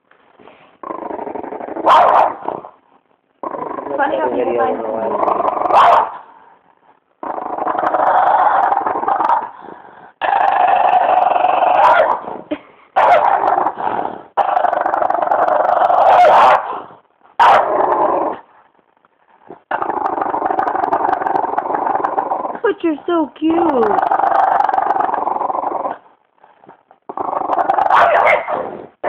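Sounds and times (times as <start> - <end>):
dog growling: 0.8 - 2.8, 3.4 - 6.1, 7.2 - 18.6, 19.5 - 22.7, 23.6 - 29.0.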